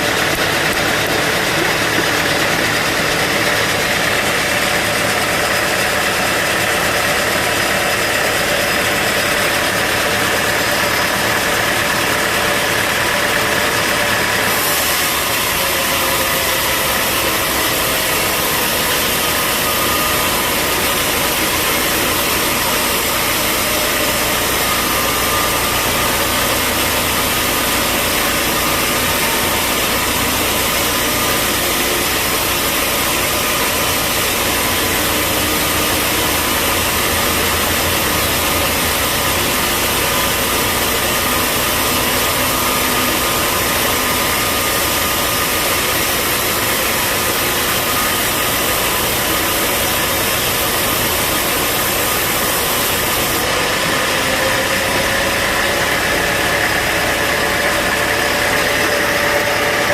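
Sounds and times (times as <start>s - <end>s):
bandsaw machinery running: 0.0s - 59.9s.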